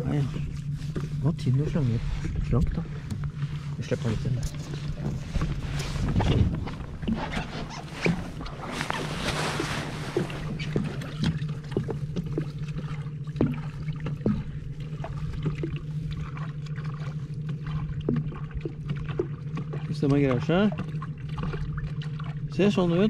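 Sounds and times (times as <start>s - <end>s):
boat engine idling: 0.0s - 23.0s
water sloshing and splashing: 0.0s - 23.0s.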